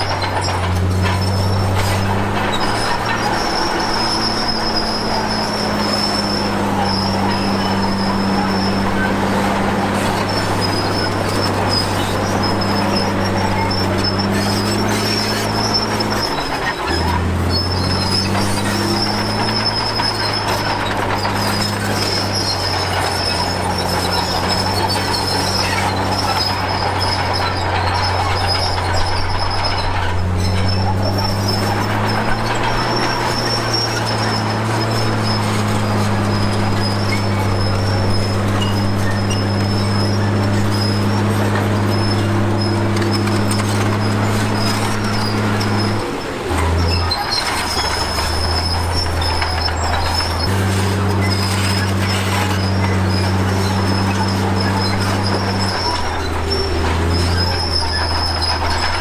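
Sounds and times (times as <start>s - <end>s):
bulldozer diesel engine: 0.0s - 59.0s
high-pitched squeal of steel tracks: 0.0s - 59.0s.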